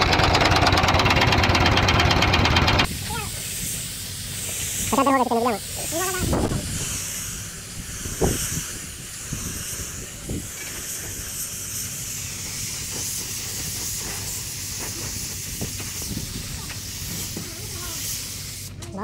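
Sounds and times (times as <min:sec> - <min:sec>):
paint spray gun hissing: 0:02.8 - 0:18.8.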